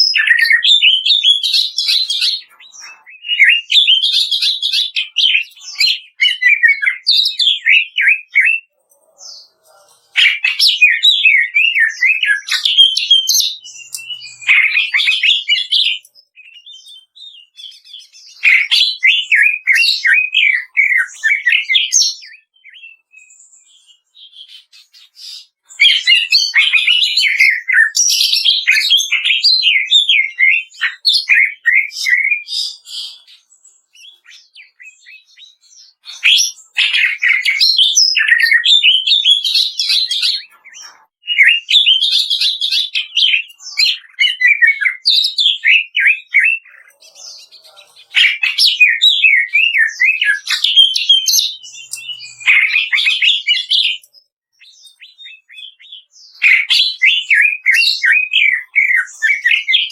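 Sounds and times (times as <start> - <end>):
bird singing rapid chattering song: 0.0 - 59.9.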